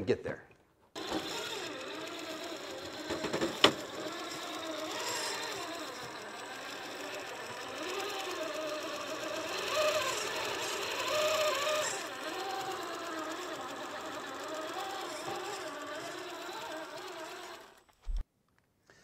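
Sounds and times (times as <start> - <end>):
toy car electric motor whining: 0.9 - 18.0.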